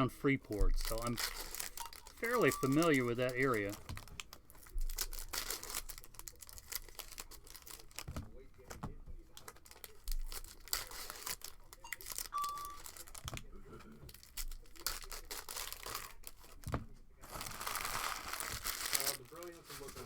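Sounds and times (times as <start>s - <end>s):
cards handled rustling and clicking: 0.5s - 20.0s
card wrappers tearing and crinkling: 0.6s - 8.2s, 9.3s - 20.0s.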